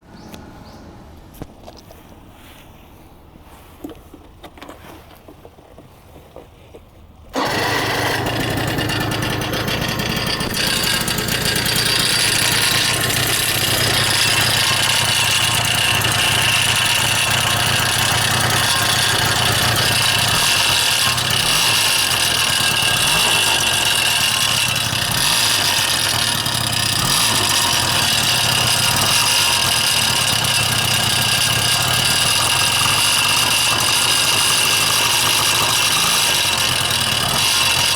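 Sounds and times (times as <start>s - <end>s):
abnormal muffler noise: 0.0s - 37.9s
scooter engine running: 7.3s - 37.9s.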